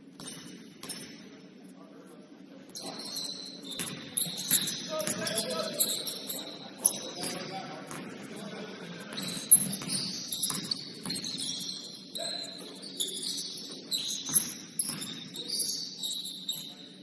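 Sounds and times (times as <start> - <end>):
basketball shoes squeaking: 0.2 - 1.3, 2.7 - 8.2, 9.1 - 17.0.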